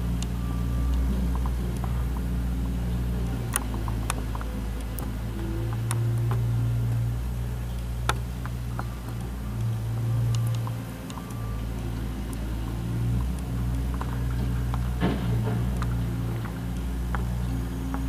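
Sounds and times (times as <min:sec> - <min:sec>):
skid steer engine running: 0:00.0 - 0:18.0.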